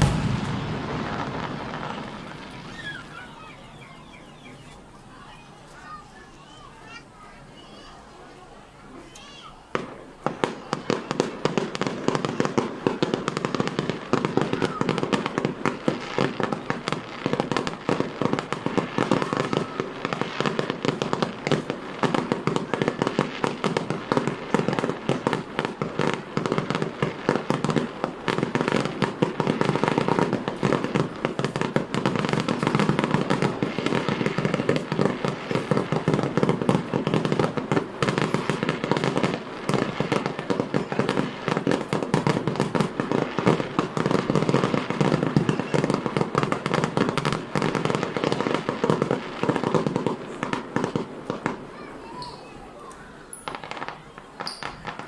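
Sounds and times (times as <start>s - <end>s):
firework shell bursts and crackling: 0.0s - 3.5s, 9.1s - 55.0s.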